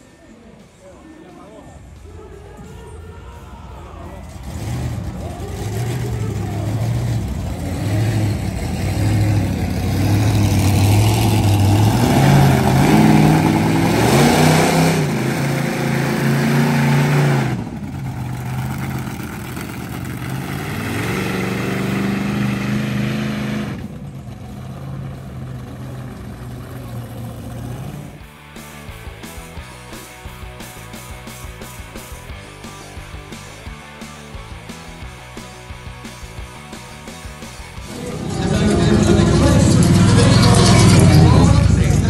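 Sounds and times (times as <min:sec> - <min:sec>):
monster truck engine revving: 0:04.1 - 0:29.5, 0:30.2 - 0:42.0.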